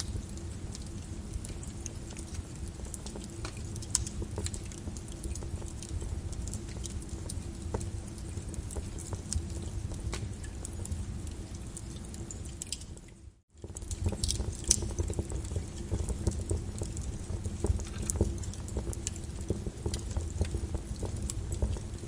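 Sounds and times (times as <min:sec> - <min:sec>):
lava crackling and popping: 0:00.0 - 0:22.0.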